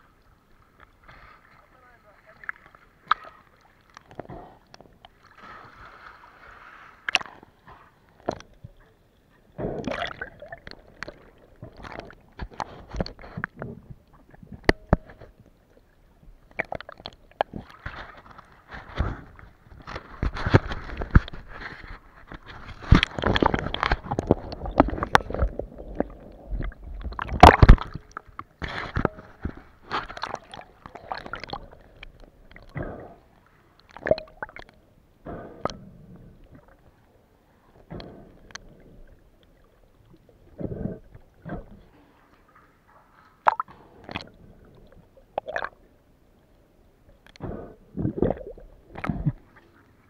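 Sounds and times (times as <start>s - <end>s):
water sloshing and splashing: 0.0s - 50.0s.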